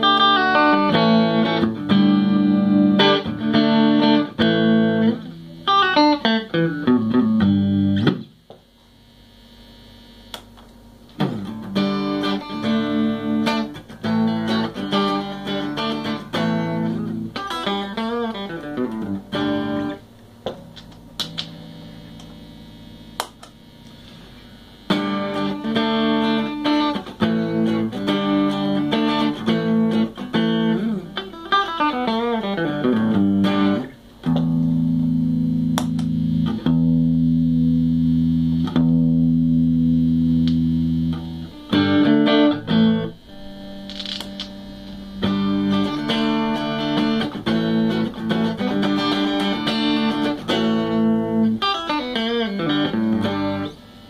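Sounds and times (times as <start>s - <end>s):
electric guitar notes and chords: 0.0s - 8.6s, 9.7s - 54.0s.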